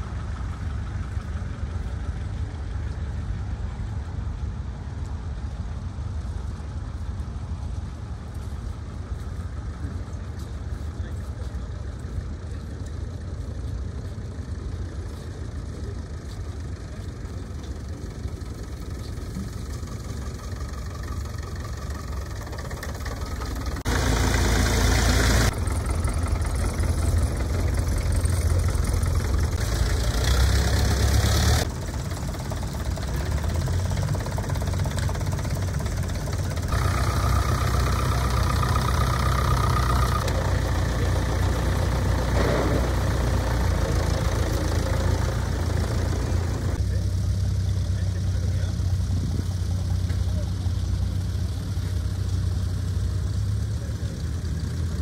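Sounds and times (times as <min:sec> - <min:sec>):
tractor engines running: 0:00.0 - 0:55.0.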